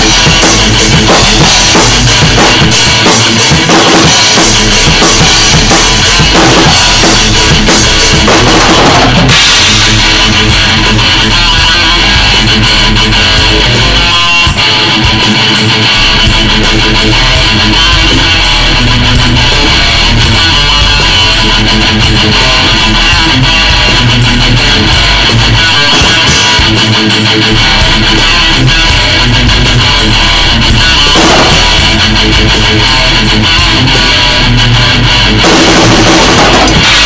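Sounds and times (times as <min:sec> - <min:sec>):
music with strummed guitar: 0:00.0 - 0:37.0.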